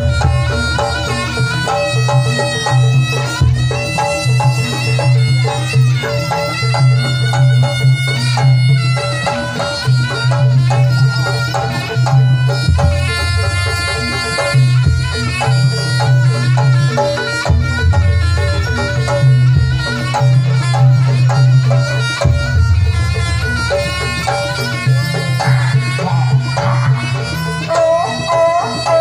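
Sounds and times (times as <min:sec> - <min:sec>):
shrill reedy shawm melody: 0:00.0 - 0:29.0.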